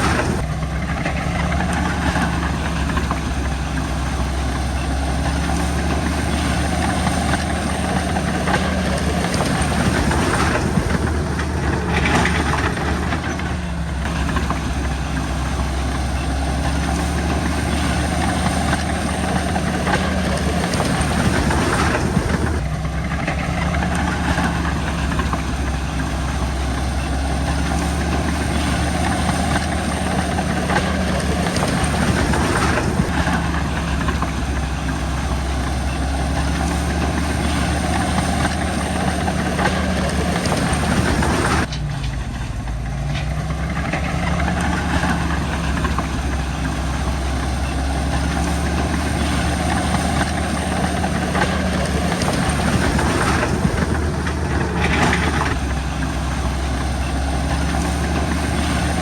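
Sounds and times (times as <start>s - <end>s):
bulldozer diesel engine droning: 0.0s - 59.0s.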